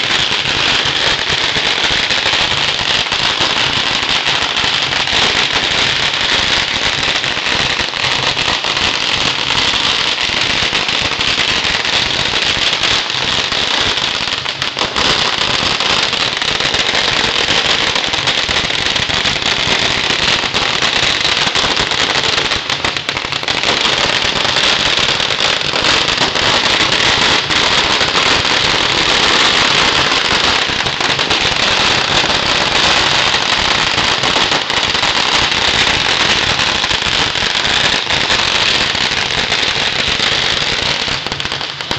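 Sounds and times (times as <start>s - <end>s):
firecrackers crackling: 0.0s - 41.9s.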